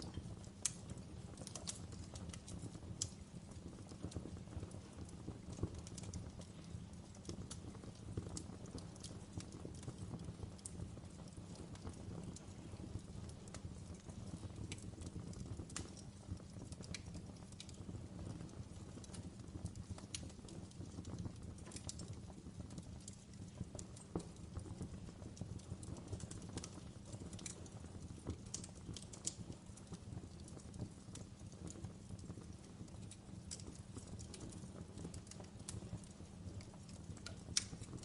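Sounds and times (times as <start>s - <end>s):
fire crackling: 0.0s - 38.0s.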